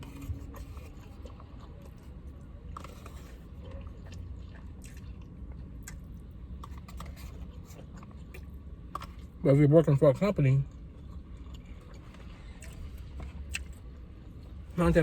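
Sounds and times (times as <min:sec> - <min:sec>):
chewing with mouth smacks: 0:00.0 - 0:09.4, 0:10.1 - 0:14.8.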